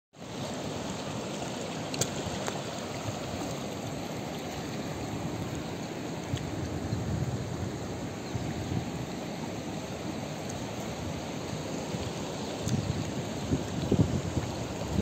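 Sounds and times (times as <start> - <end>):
river rushing over rapids: 0.2 - 15.0.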